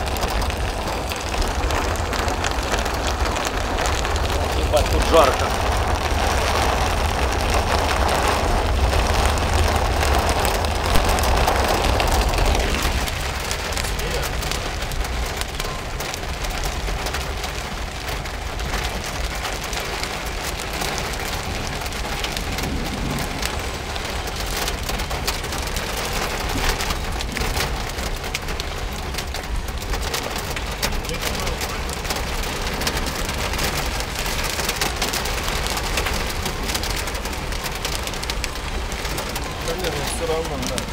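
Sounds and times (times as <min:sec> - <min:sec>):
car rumbling on wet road: 0:00.0 - 0:40.9
heavy rain on car roof: 0:00.0 - 0:40.9.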